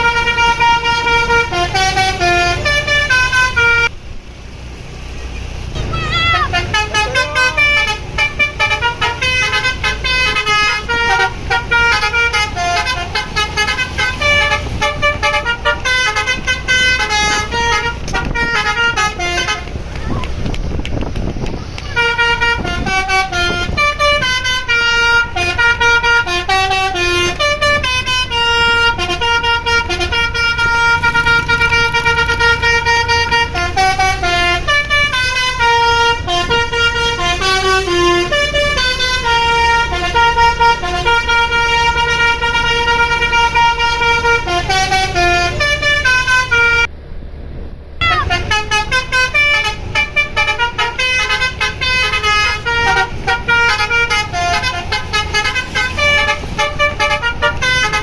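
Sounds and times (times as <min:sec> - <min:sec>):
bus air horn playing a tune: 0:00.0 - 0:03.9, 0:05.8 - 0:19.9, 0:21.7 - 0:46.9, 0:48.0 - 0:58.0
bus engine running: 0:00.0 - 0:58.0.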